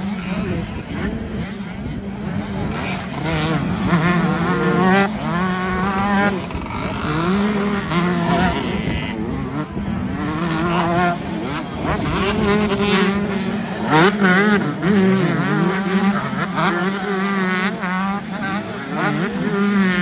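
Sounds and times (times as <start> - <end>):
motocross bikes revving past: 0.0 - 20.0.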